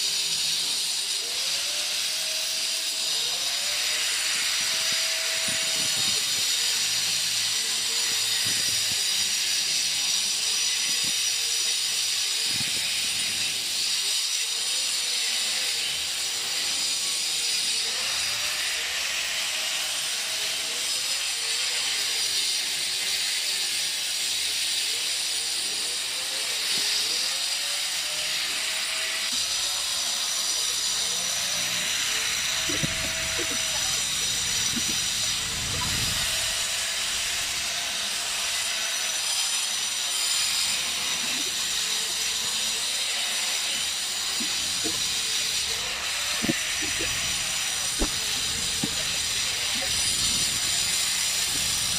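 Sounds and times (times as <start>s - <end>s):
angle grinder cutting concrete: 0.0s - 51.9s.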